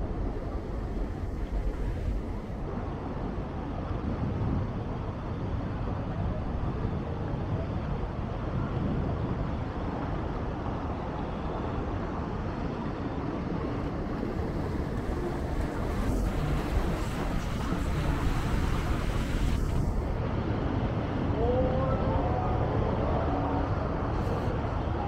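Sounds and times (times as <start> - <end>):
boat engine rumble: 0.0 - 25.0.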